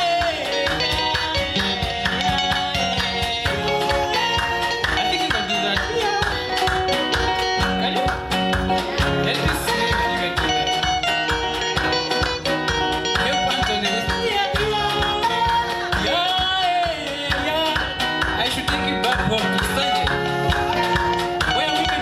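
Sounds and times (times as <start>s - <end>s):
band music with steady beat: 0.0s - 22.0s
person singing: 0.0s - 22.0s.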